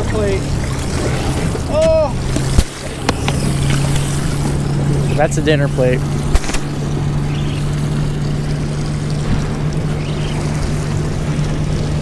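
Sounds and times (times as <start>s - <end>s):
outboard motor idling: 0.0s - 12.0s
wind and water hiss: 0.0s - 12.0s.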